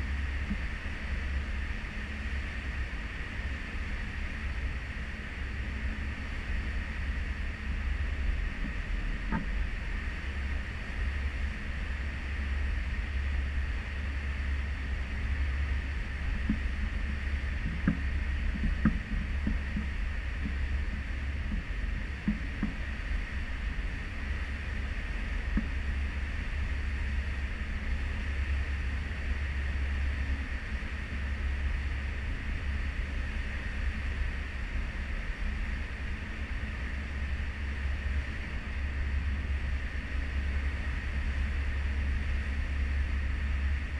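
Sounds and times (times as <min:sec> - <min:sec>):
deep engine rumble: 0:00.0 - 0:43.9.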